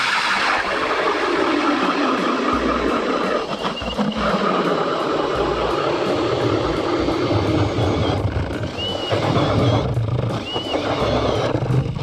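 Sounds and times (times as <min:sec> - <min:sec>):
ice auger motor running: 0:01.4 - 0:12.0.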